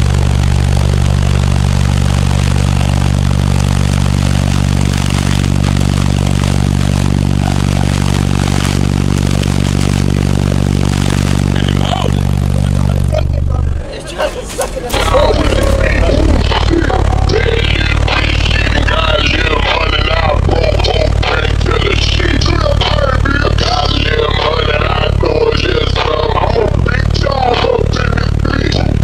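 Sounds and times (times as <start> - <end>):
loud sustained bass tone: 0.0 - 13.9, 14.9 - 29.0.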